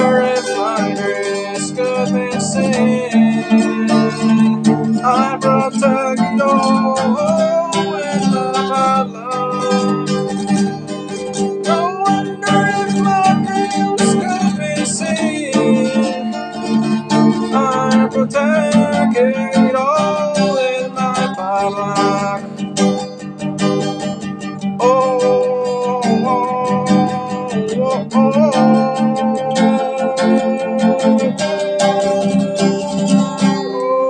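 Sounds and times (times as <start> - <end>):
acoustic guitar strumming: 0.0 - 34.0
person singing: 0.0 - 34.0.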